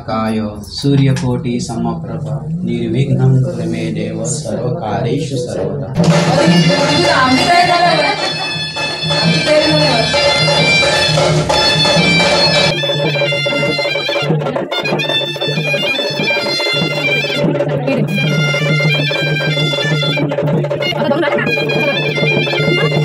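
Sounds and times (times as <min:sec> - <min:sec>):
light percussion: 0:00.0 - 0:23.0.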